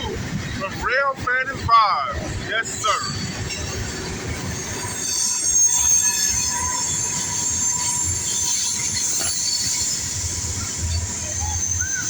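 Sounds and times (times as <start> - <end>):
freight train rumbling: 0.0 - 12.0
steel wheels squealing on rails: 0.0 - 12.0.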